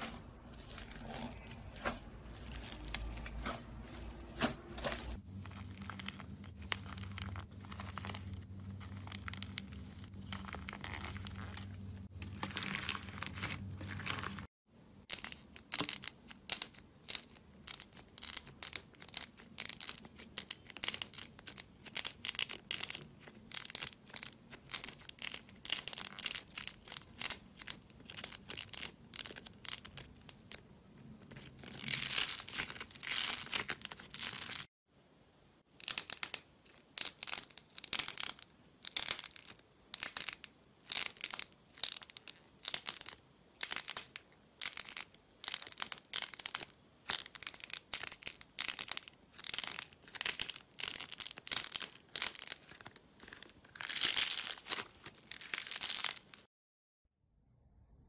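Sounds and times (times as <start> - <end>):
clay crackling and tearing off beads: 0.0 - 34.7, 35.6 - 56.5.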